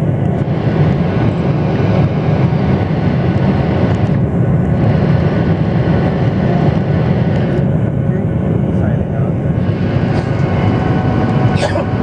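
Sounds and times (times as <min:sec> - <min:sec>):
airliner cabin engine noise: 0:00.0 - 0:12.0.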